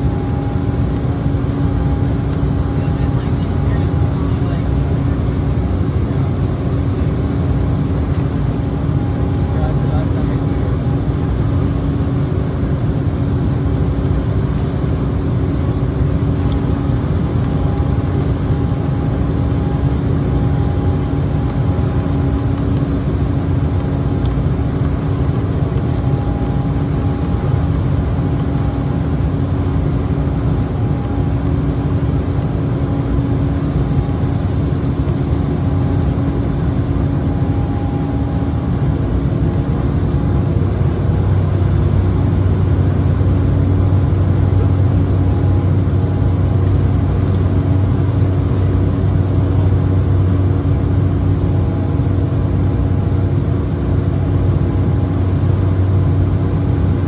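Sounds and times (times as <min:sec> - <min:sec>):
jet engines droning: 0:00.0 - 0:57.0
steady hum tones: 0:00.0 - 0:57.0.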